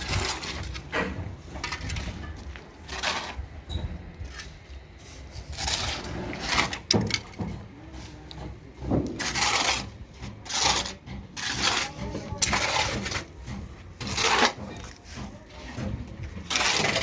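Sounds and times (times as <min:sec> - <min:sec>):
rough scraping strokes: 0:00.0 - 0:07.0, 0:07.9 - 0:17.0.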